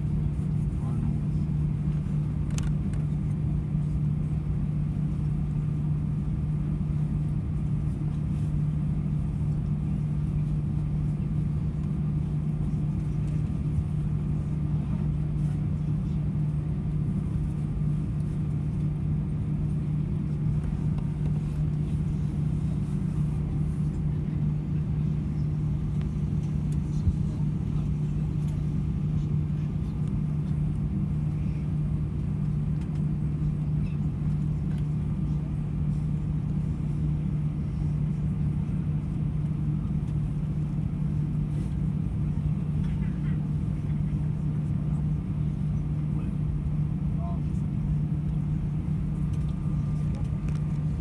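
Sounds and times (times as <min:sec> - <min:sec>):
aircraft cabin engine drone: 0:00.0 - 0:51.0.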